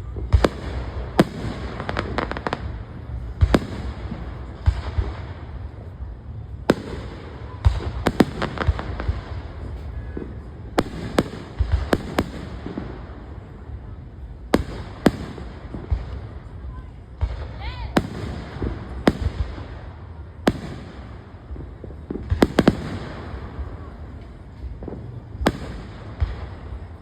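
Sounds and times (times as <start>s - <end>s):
fireworks bangs and cracks: 0.0s - 27.0s
low background rumble: 0.0s - 27.0s.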